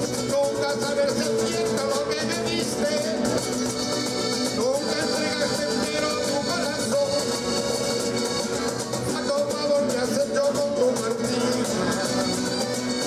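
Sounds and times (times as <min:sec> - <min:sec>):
latin american style music: 0:00.0 - 0:13.0.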